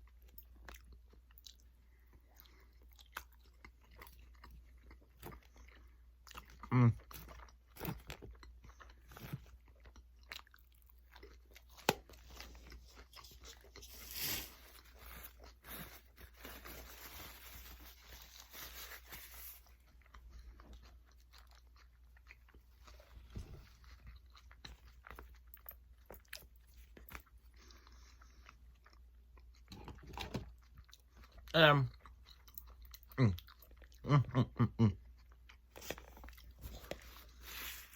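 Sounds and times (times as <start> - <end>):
person chewing and crunching food: 0.0 - 37.9.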